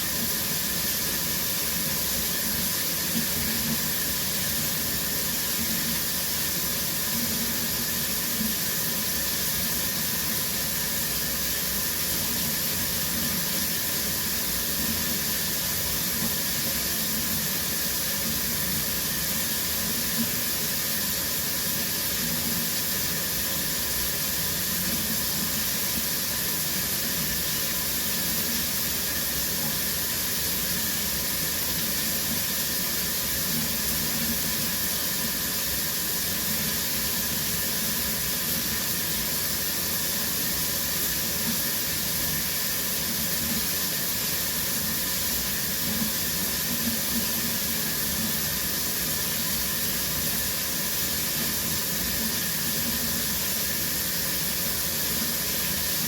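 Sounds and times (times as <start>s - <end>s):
shower water spraying: 0.0s - 56.0s.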